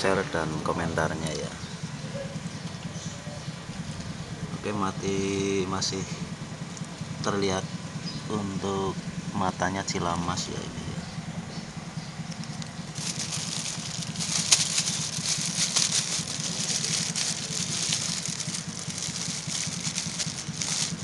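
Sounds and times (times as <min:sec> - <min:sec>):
low pulsing engine-like hum: 0:00.0 - 0:21.0.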